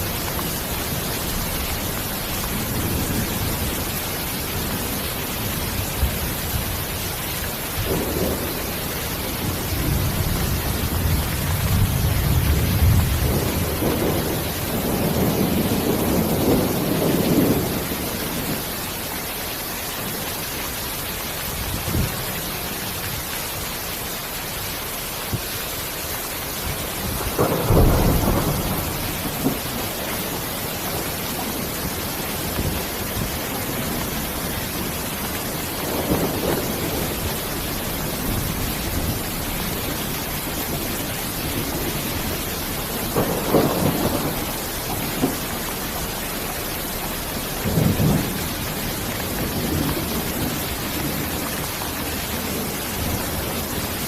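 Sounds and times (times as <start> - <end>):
thunder rumbling: 0.0 - 19.1, 26.5 - 54.0
steady rain hissing: 0.0 - 54.0.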